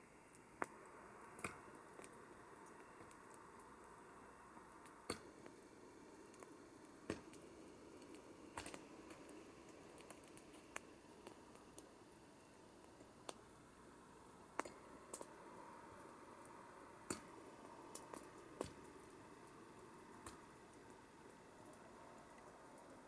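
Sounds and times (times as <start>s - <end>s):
campfire crackling: 0.0s - 23.0s
low steady hiss: 0.0s - 23.0s.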